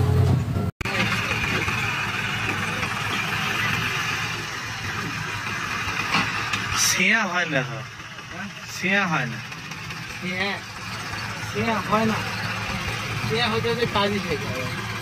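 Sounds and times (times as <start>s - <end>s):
tractor diesel engine idling: 0.8s - 15.0s.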